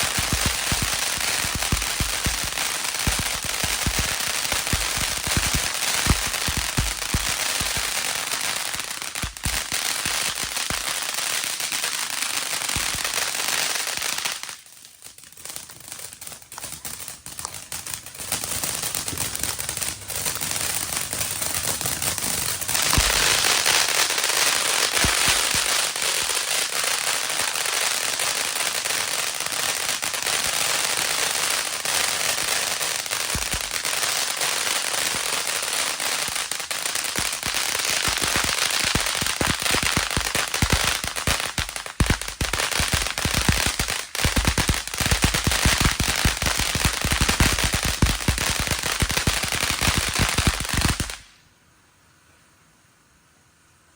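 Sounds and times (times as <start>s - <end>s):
fountain firework hissing and crackling: 0.0s - 51.5s.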